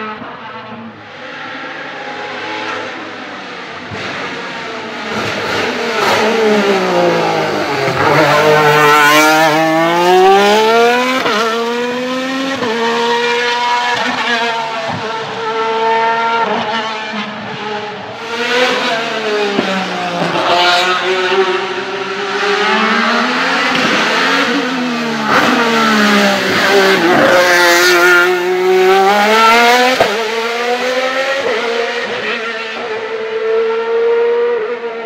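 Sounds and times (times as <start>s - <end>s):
racing car engine revving: 0.0s - 35.0s.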